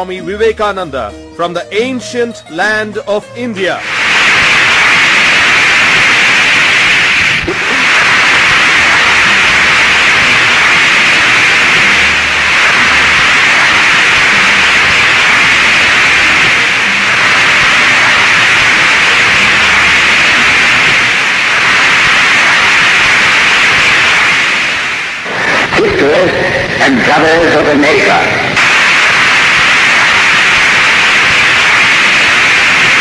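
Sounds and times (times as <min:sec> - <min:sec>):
audience applauding: 0:03.8 - 0:33.0.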